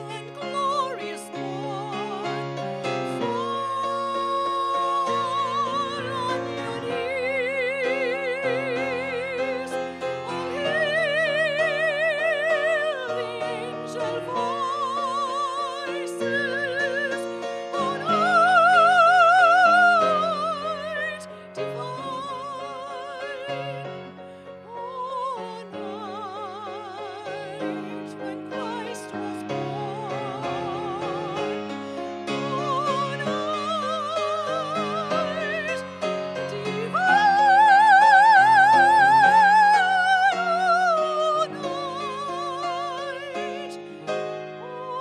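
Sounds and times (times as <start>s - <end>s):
woman singing operatically: 0.0s - 2.4s, 3.1s - 24.1s, 24.7s - 31.5s, 32.3s - 43.8s, 44.6s - 45.0s
piano accompaniment: 0.0s - 45.0s.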